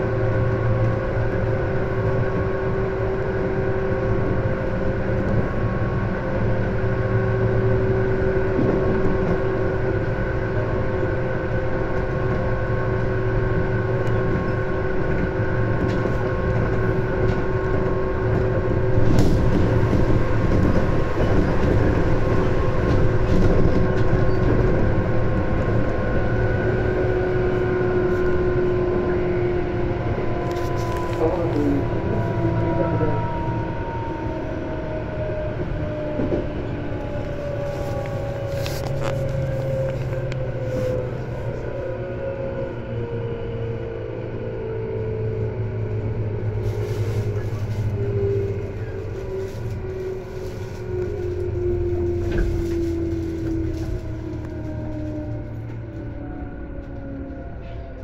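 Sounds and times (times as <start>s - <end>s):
train wheels rumbling on rail: 0.0s - 58.0s
train whining tones: 0.0s - 58.0s.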